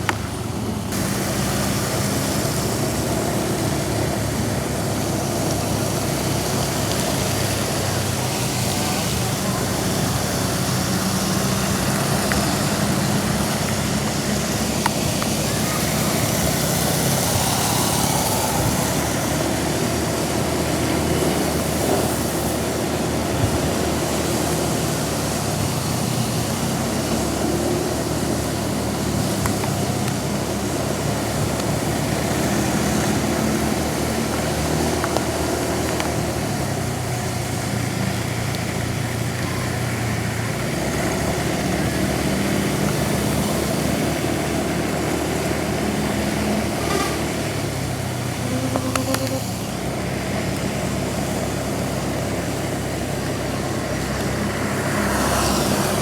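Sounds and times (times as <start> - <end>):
heavy rain on wet road: 0.0 - 56.0
vehicle engine running: 0.0 - 56.0.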